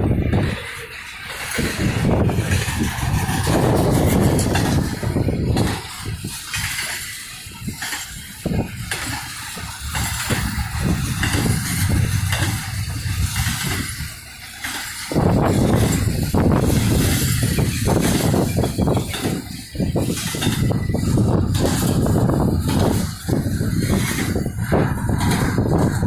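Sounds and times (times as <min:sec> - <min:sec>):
road and vehicle rumble: 0:00.0 - 0:26.0
wind buffeting microphone: 0:00.0 - 0:26.0.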